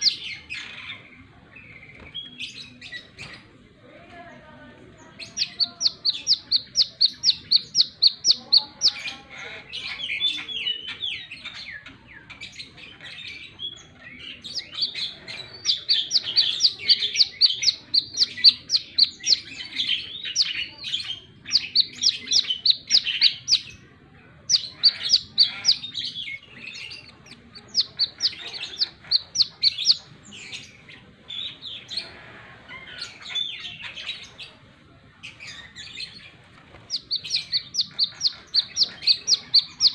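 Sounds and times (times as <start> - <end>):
sunbird singing: 0.0 - 3.4, 5.0 - 32.1, 35.2 - 39.9.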